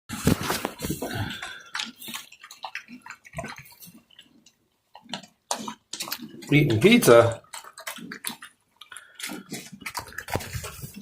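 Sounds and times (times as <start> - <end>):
pigs chewing and smacking: 0.1 - 11.0.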